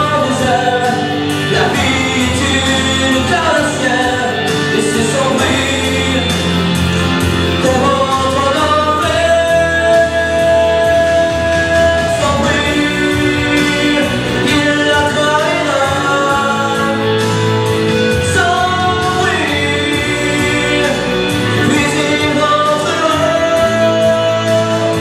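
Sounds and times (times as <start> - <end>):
instrumental backing music: 0.0 - 25.0
man singing into microphone: 0.0 - 25.0.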